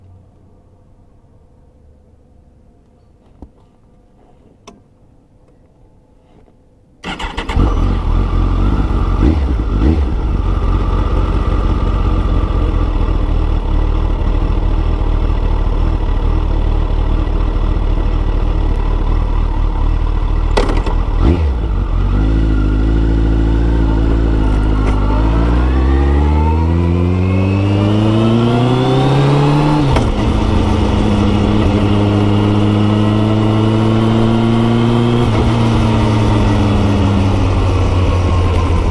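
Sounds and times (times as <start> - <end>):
motorcycle engine idling and revving: 7.0 - 38.9.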